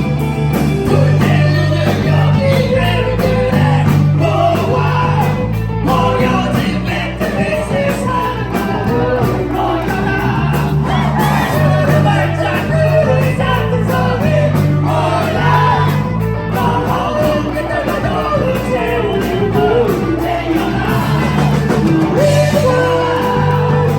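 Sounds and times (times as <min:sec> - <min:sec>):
bass notes: 0:00.0 - 0:23.9
drum beat: 0:00.0 - 0:23.9
rock band playing live: 0:00.0 - 0:23.9
person singing: 0:00.8 - 0:23.9.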